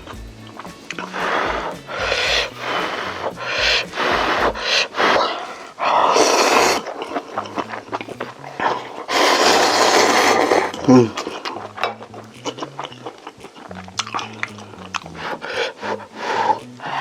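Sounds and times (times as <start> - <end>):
mouth clicks: 0.0 - 17.0
loud slurping and breathing: 1.0 - 11.6, 12.5 - 17.0.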